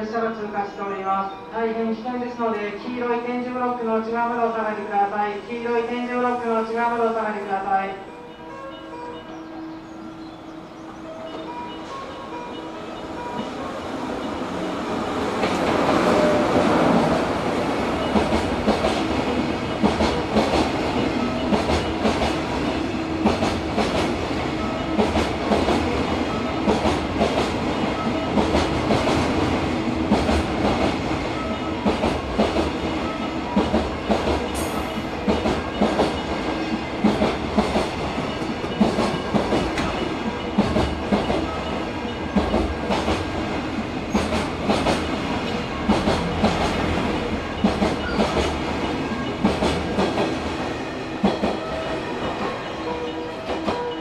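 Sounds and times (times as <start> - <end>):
electric locomotive passing: 0.0 - 54.0.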